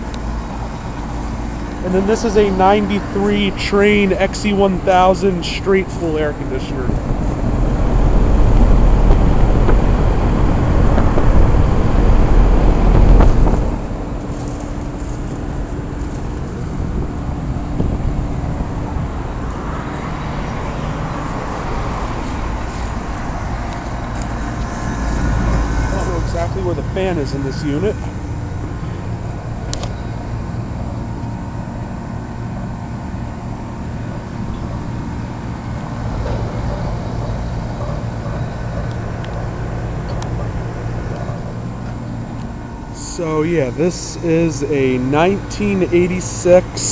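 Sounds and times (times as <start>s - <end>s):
air conditioner unit droning: 0.0s - 46.9s
faint hum tone: 0.0s - 46.9s.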